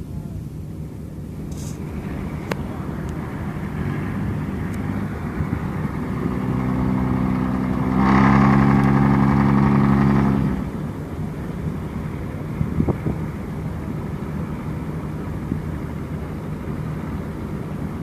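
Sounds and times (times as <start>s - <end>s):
continuous rumble: 0.0s - 18.0s
engine running: 0.0s - 18.0s.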